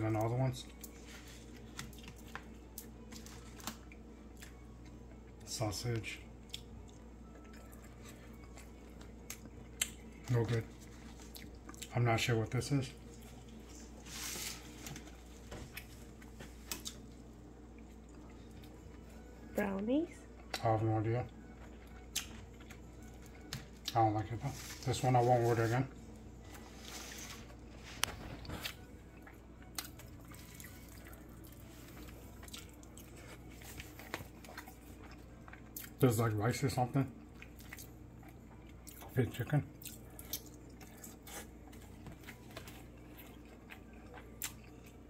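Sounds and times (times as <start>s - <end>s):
low room hum: 0.0s - 45.0s.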